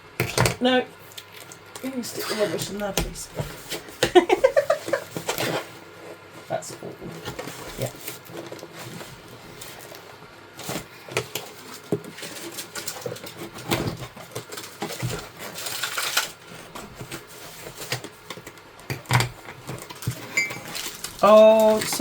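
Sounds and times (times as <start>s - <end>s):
packaging rustling: 1.0s - 22.0s.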